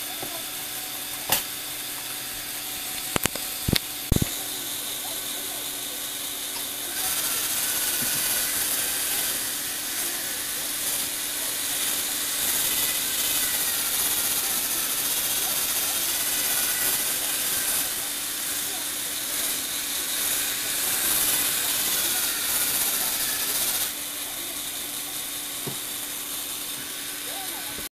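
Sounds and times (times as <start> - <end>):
toy motors and gears whirring: 0.0 - 27.9.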